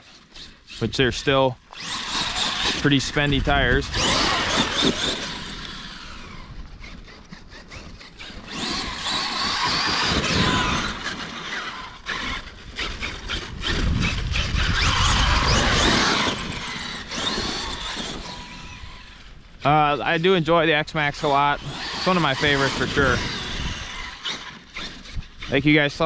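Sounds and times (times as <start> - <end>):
tire noise: 0.0 - 26.0
toy truck electric motor whining: 0.0 - 26.0.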